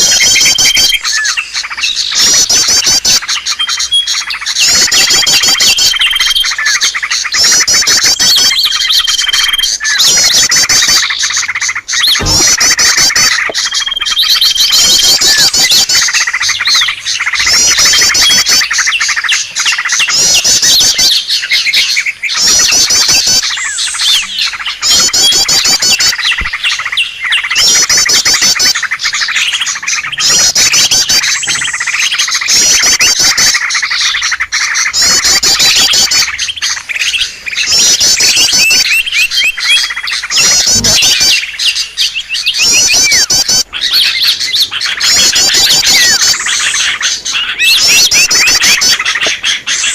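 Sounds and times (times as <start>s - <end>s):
small birds chirping and trilling: 0.0s - 49.9s.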